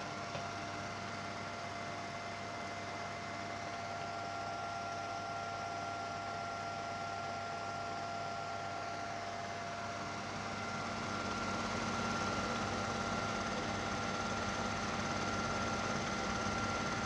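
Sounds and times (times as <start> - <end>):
film projector running: 0.0 - 17.0.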